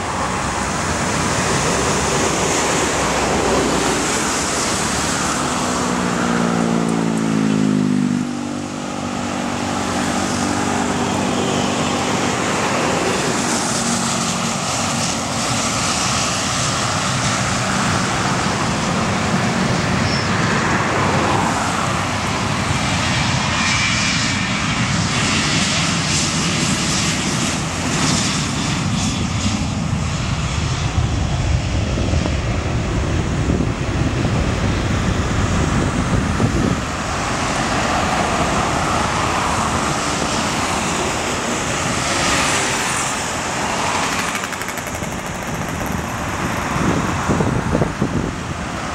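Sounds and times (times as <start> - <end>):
jet engines at takeoff: 0.0 - 48.9.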